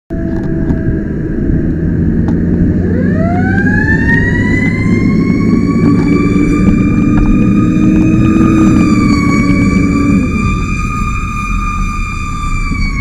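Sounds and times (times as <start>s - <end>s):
fire truck siren wailing: 0.1s - 13.0s
truck engine and road rumble: 0.1s - 13.0s.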